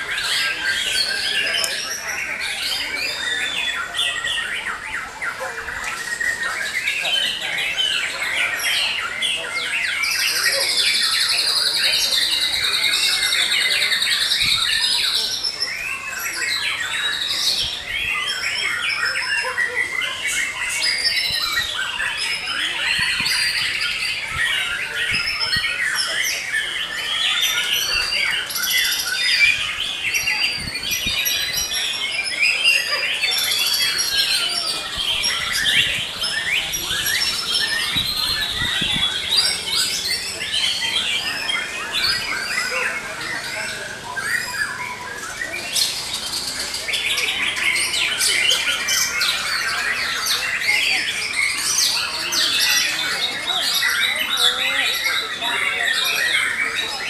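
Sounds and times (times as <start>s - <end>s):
birds singing whistles and trills: 0.0s - 57.0s.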